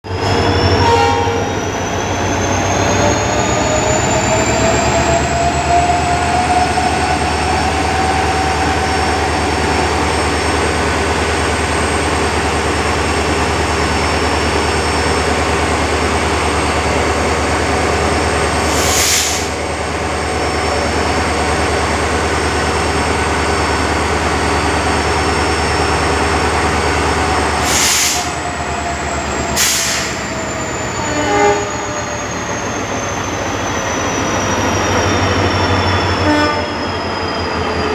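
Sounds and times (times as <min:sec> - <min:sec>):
diesel locomotive engine humming: 0:00.0 - 0:37.9.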